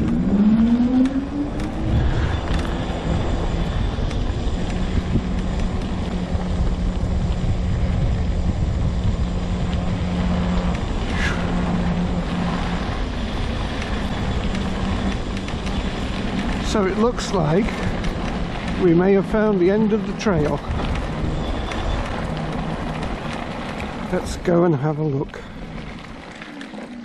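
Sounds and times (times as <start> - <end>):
electric motor whine: 0.0 - 24.5
tyres and wind rumbling: 0.0 - 27.0.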